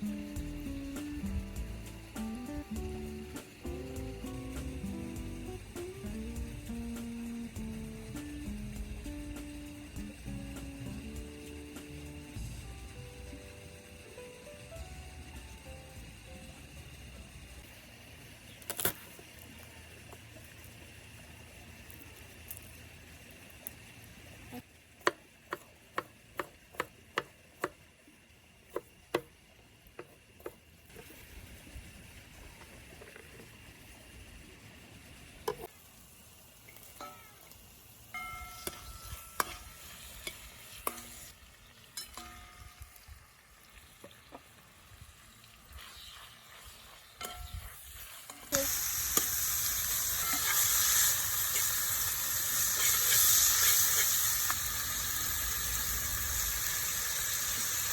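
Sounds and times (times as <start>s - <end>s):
food sizzling in hot oil: 0.0s - 57.9s.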